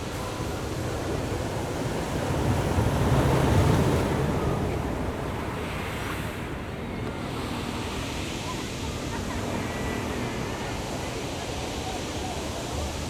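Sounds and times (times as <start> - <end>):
ocean waves breaking on shore: 0.0 - 13.0.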